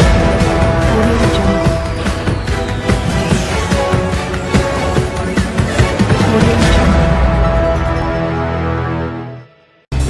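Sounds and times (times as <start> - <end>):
electronic news theme music: 0.0 - 9.4.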